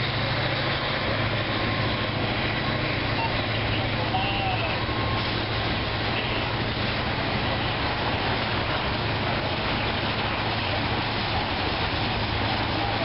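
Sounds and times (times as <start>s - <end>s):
freight train rolling past: 0.0s - 13.0s
steel wheels hissing on rails: 0.0s - 13.0s.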